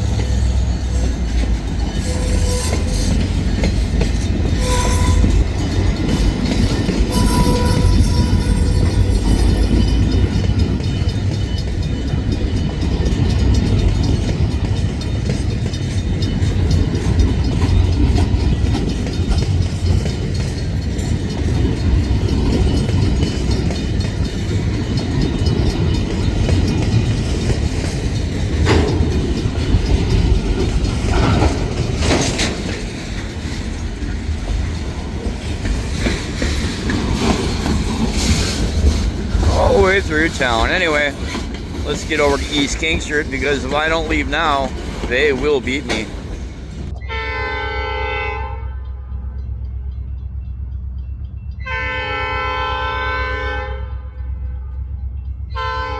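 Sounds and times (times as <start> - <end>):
freight train rumble and wheel clatter: 0.0 - 55.9
sharp train clanks: 0.0 - 55.9.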